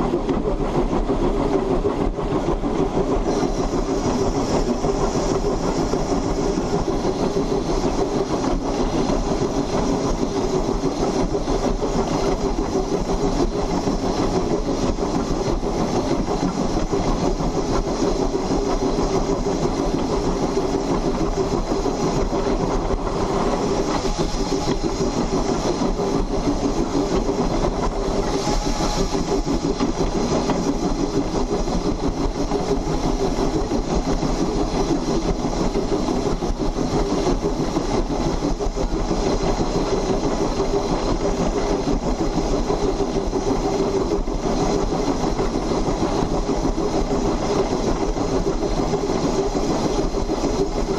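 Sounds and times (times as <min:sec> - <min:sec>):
steam locomotive wheels clattering: 0:00.0 - 0:50.9.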